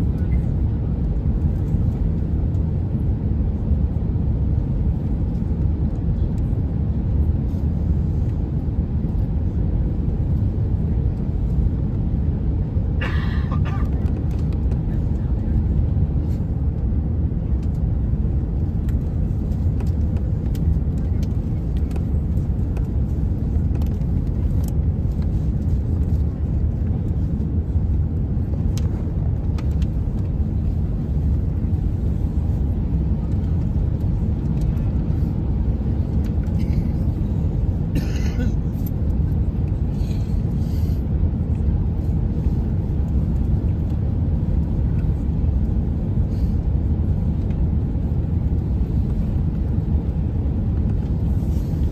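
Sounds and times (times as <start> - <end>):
airplane cabin rumble: 0.0 - 51.9.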